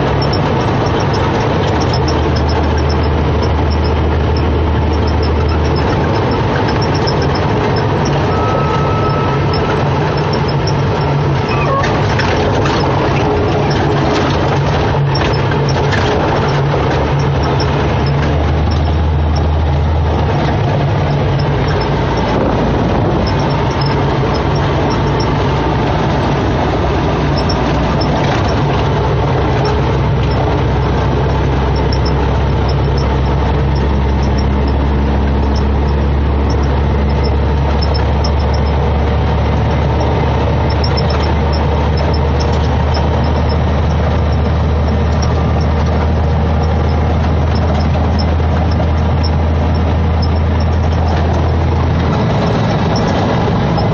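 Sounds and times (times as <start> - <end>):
diesel truck engine droning: 0.0 - 53.9
road noise: 0.0 - 53.9.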